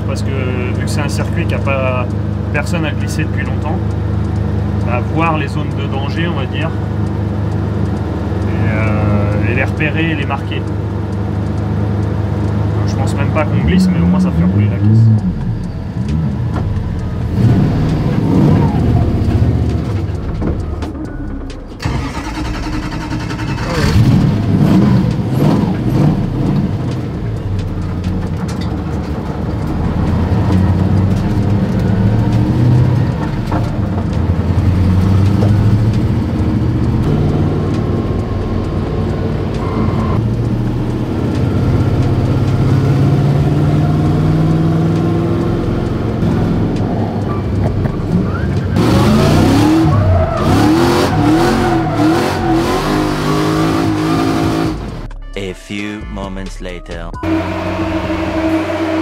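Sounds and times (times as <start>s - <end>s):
car engine revving: 0.0s - 55.2s, 57.2s - 59.0s.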